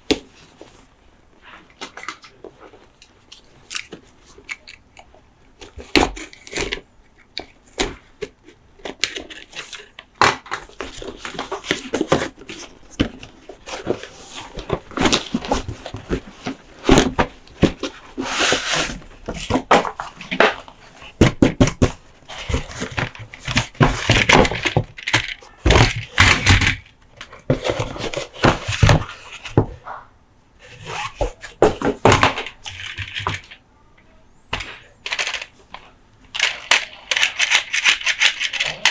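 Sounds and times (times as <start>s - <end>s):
handling diecast toy trucks: 1.7s - 21.2s, 21.8s - 29.6s, 34.6s - 38.9s.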